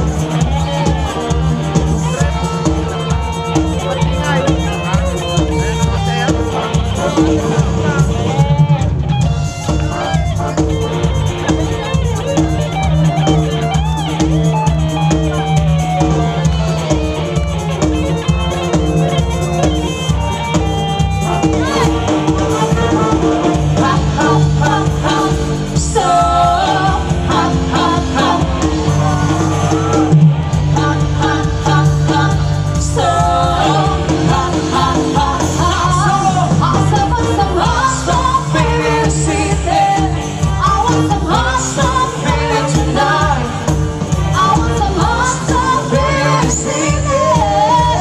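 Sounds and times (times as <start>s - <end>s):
live band playing disco: 0.0s - 48.0s.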